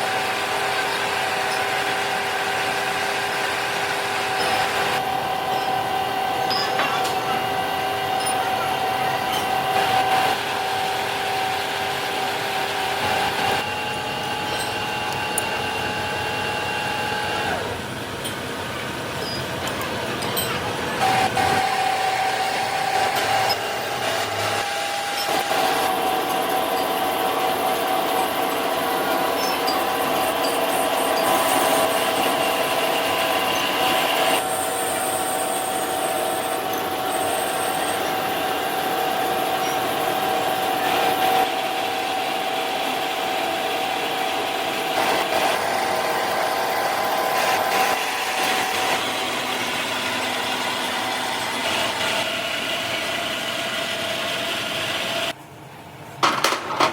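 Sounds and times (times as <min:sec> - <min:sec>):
metalworking machine grinding metal: 0:00.0 - 0:55.4.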